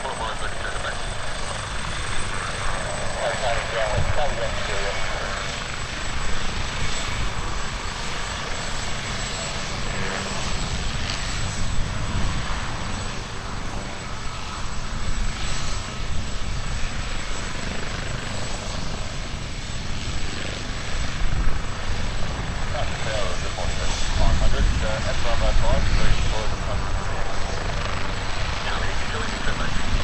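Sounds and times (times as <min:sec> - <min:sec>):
helicopter running: 0:00.0 - 0:30.0.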